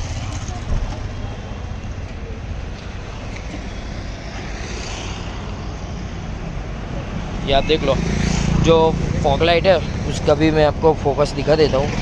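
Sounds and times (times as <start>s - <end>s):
faint street traffic: 0.0s - 12.0s.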